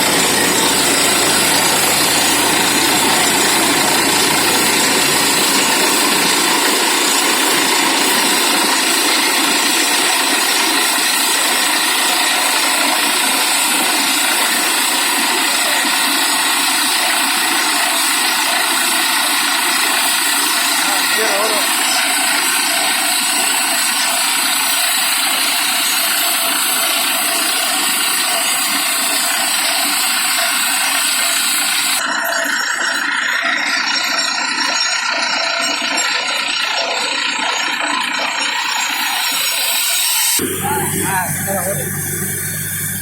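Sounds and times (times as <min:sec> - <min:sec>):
drilling rig running: 0:00.0 - 0:43.0.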